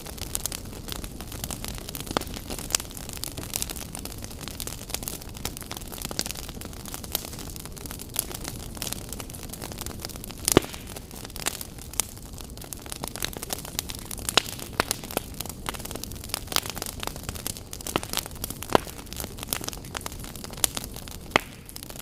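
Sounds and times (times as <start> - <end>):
low rush of fire: 0.0 - 22.0
wood fire crackling and popping: 0.0 - 22.0.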